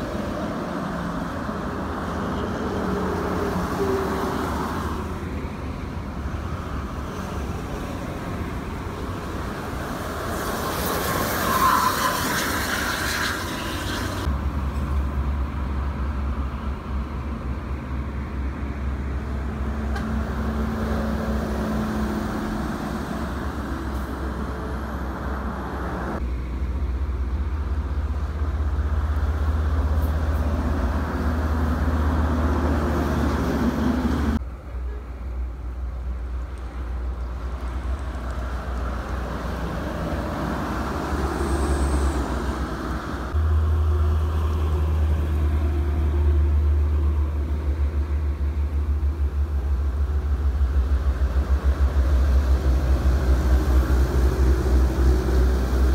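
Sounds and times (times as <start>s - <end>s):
buses and trucks passing: 0.0s - 55.9s.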